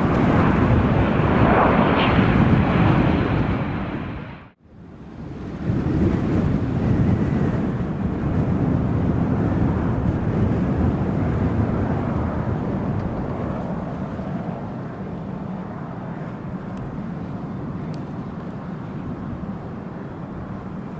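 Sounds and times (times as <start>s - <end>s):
airliner engines rumbling: 0.0s - 5.5s, 6.2s - 20.9s.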